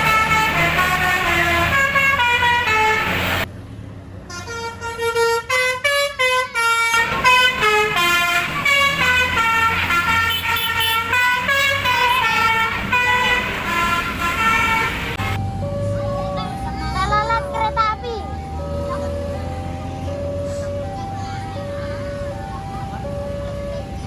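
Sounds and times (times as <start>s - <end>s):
bus multi-tone horn tune: 0.0s - 3.5s, 4.2s - 24.0s
bus engine: 0.0s - 24.0s.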